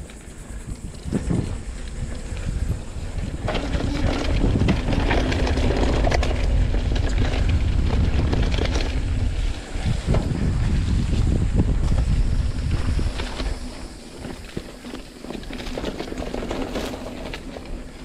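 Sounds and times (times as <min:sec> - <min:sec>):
bike rattles and clicks: 0:00.0 - 0:18.0
tyres rolling over dirt: 0:00.0 - 0:18.0
wind buffeting microphone: 0:00.0 - 0:18.0.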